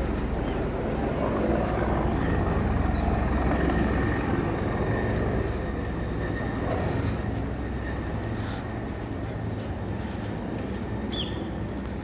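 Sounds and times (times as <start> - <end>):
helicopter rotor chop: 0.0 - 12.0.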